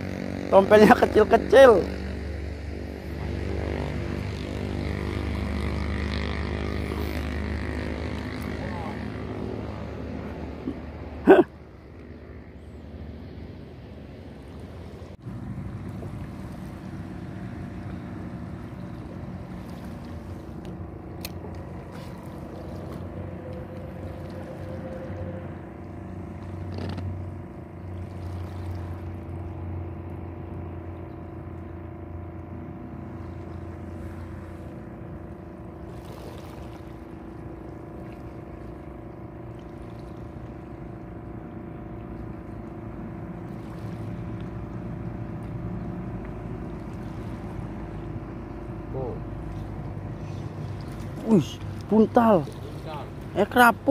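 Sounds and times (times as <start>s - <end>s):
boat engine drone: 0.0s - 53.9s.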